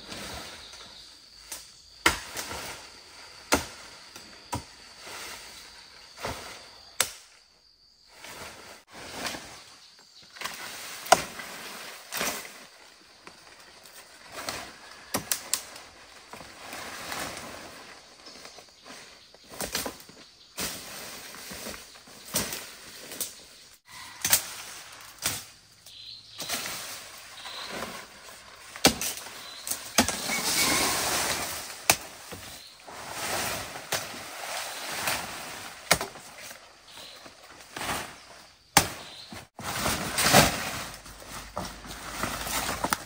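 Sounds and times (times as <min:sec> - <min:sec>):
leafy branches rustling: 0:08.1 - 0:43.0.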